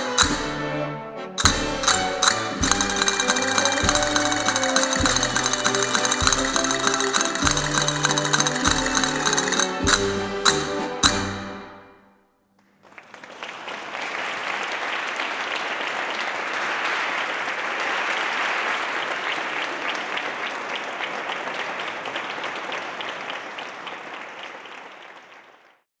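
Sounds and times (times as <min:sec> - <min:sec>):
audience applauding: 0:01.8 - 0:10.0, 0:12.6 - 0:25.9.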